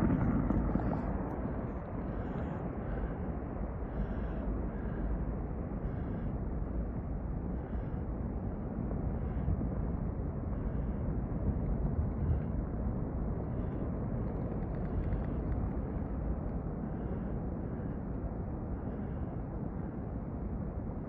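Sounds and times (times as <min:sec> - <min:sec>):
avalanche rumble: 0:00.0 - 0:21.0.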